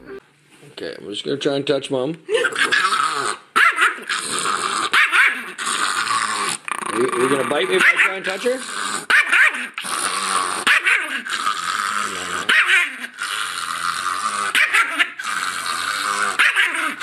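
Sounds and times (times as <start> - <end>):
small dog growling and snarling: 2.4 - 17.0.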